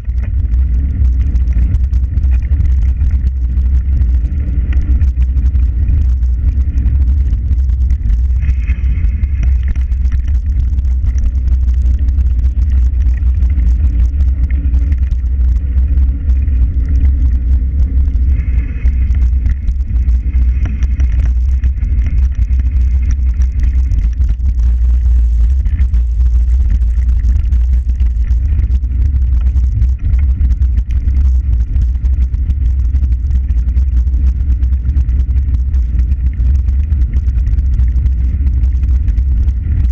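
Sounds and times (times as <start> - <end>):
wheels rolling on pavement: 0.0 - 32.7.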